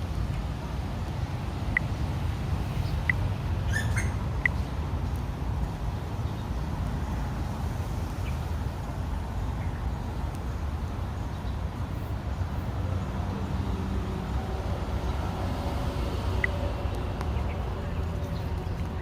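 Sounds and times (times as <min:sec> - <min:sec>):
low outdoor background rumble: 0:00.0 - 0:19.0.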